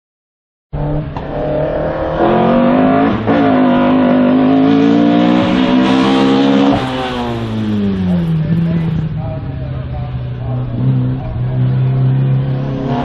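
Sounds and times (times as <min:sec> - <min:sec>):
race car engine revving: 0:00.8 - 0:13.0.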